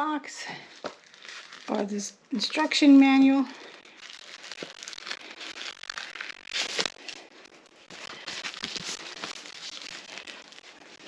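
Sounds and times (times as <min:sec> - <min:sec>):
packaging rustling and crinkling: 0:00.5 - 0:11.0.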